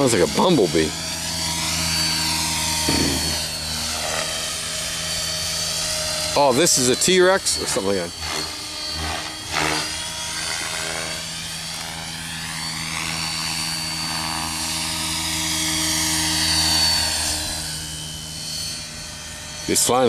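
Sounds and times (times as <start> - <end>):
model helicopter buzzing whine: 0.0 - 20.0.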